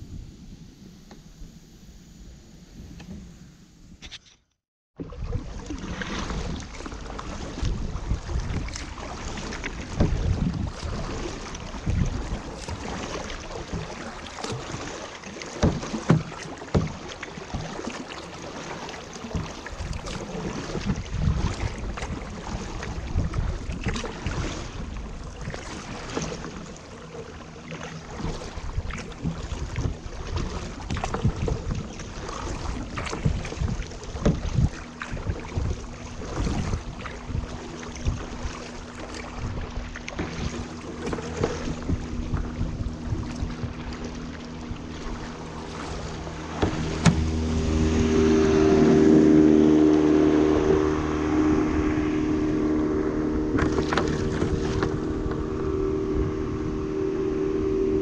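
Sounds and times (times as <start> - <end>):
motorboat engine drone: 0.0 - 58.0
wind buffeting microphone: 5.0 - 15.0, 15.6 - 58.0
kayak paddle splashing: 5.0 - 58.0.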